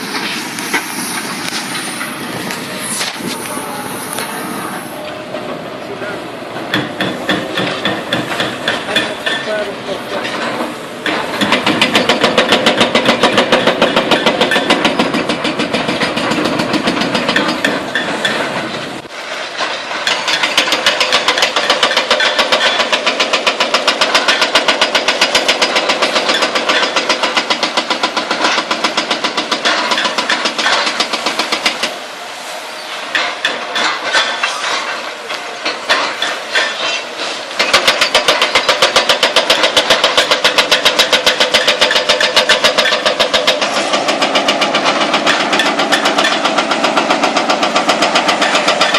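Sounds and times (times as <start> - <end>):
hydraulic breaker pounding concrete: 6.6 - 31.9, 33.1 - 48.9.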